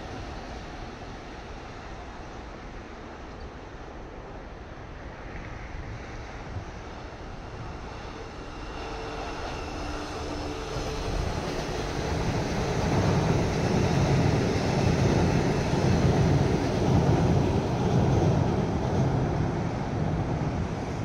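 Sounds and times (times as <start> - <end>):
electric train rumble on bridge: 0.0 - 21.0.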